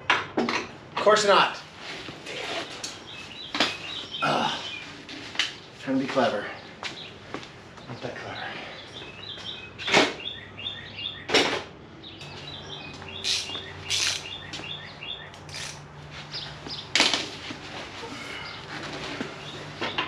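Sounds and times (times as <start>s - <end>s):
songbirds chirping: 1.0s - 20.0s.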